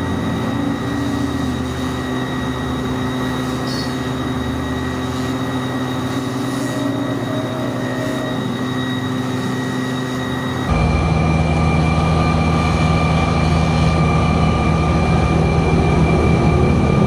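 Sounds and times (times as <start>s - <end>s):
high whine: 0.0s - 17.0s
machine humming: 0.0s - 17.0s
mechanical rumble: 0.0s - 17.0s.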